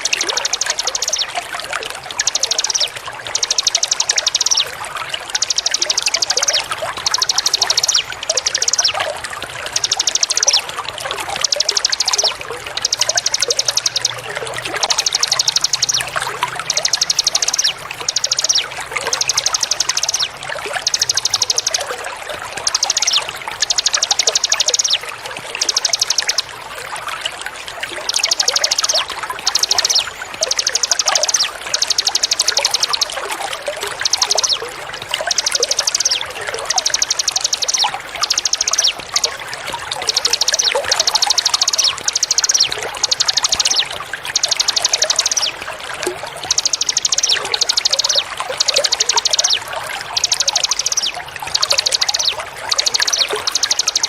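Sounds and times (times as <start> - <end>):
songbird buzzy trill: 0.0 - 54.0
trickling water: 0.0 - 54.0.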